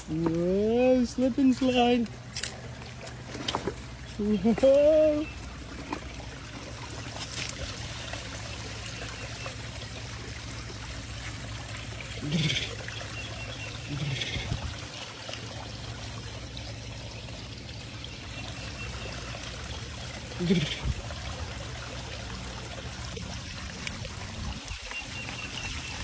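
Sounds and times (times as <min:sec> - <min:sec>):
water trickling over rocks: 0:00.0 - 0:26.0.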